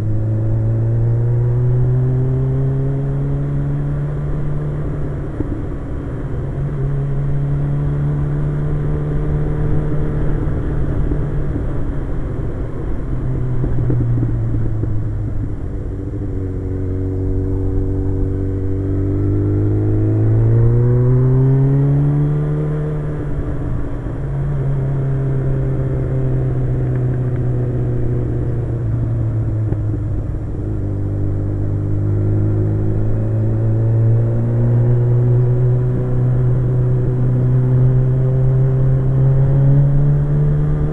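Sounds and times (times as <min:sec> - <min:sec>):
motorcycle engine running: 0:06.8 - 0:40.9.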